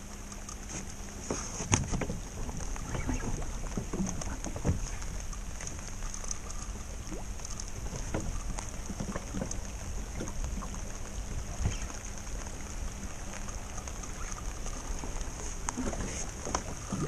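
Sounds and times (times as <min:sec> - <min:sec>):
light water splashes: 0:00.0 - 0:17.0
waves lapping against boat hull: 0:00.0 - 0:17.0.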